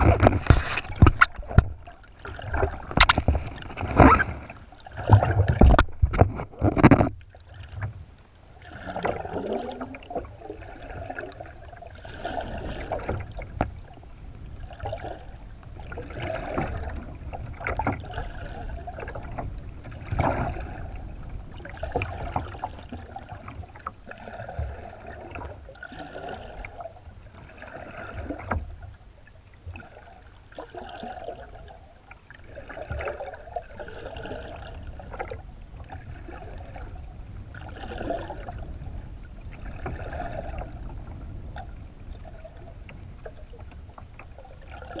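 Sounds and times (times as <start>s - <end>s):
water rushing underwater: 0.0s - 28.9s, 29.6s - 45.0s.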